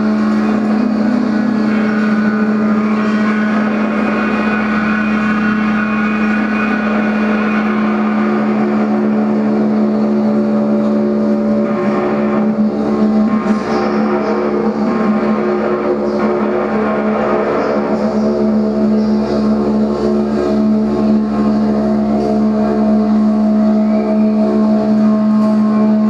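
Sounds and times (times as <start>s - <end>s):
electric guitar feedback drone: 0.0s - 26.0s.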